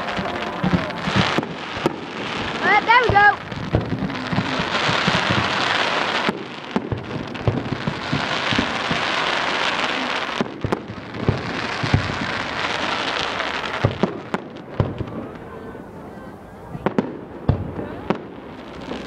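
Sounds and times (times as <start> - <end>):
sharp firework pops: 0.0 - 15.5, 16.8 - 19.0
firework barrage crackling: 0.0 - 19.0.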